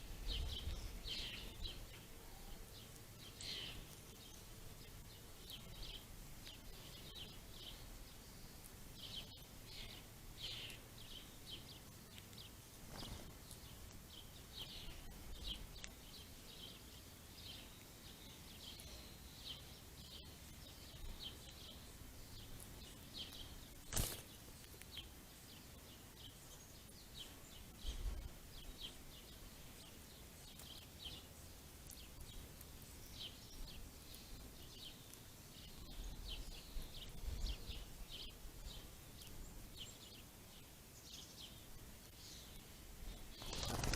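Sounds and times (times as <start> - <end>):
small songbirds chirping: 0.0 - 43.9.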